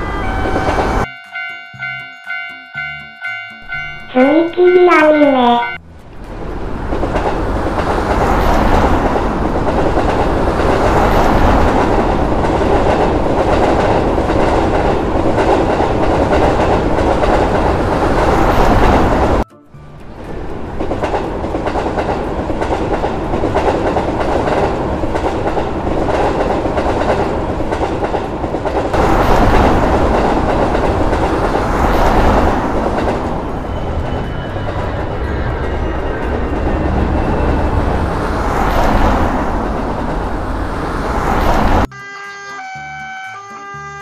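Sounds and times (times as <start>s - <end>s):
train rumbling past: 0.0s - 41.9s
wheels clattering over rails: 5.9s - 19.4s, 20.0s - 41.9s.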